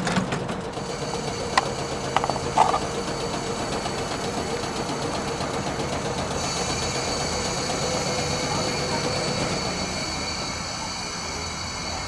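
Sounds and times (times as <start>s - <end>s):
streetcar mechanical hum: 0.0s - 12.0s
high hiss: 0.8s - 12.0s.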